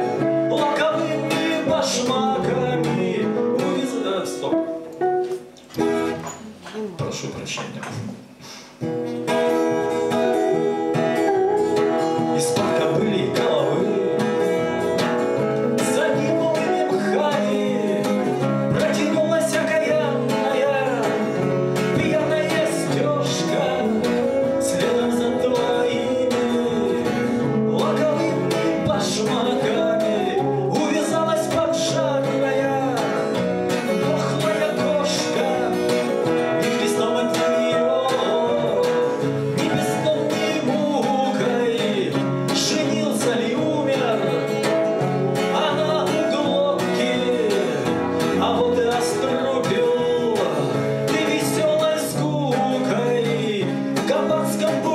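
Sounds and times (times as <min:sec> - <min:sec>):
man singing: 0:00.0 - 0:04.8, 0:10.1 - 0:54.9
electric guitar: 0:00.0 - 0:07.1, 0:07.7 - 0:54.9
acoustic guitar: 0:00.0 - 0:54.9.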